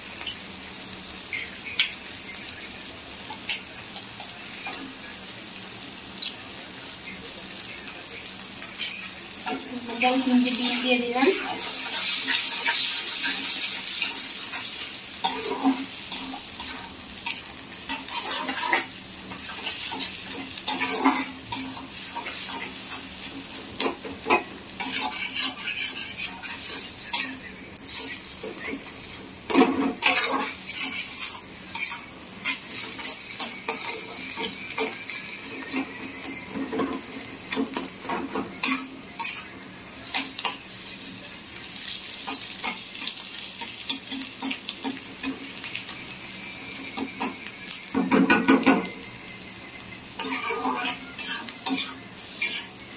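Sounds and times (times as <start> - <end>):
eggs and vegetables sizzling: 0.0 - 52.9.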